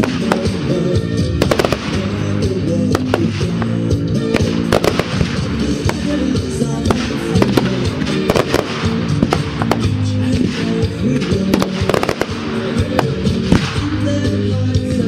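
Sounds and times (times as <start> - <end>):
fireworks bangs and crackles: 0.0 - 15.0
loud music: 0.0 - 15.0.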